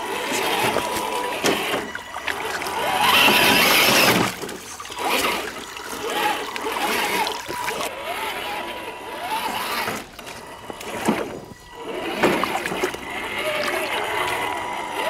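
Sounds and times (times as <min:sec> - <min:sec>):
electric motor whining: 0:00.0 - 0:15.0
tyres splashing through water: 0:00.0 - 0:15.0.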